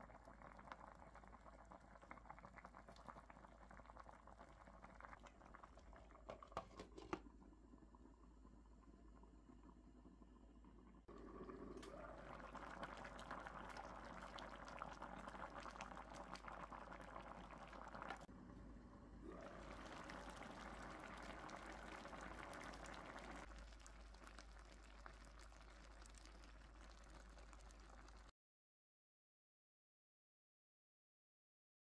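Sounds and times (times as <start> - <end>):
sauce bubbling in a frying pan: 0.0 - 18.3, 19.2 - 28.3.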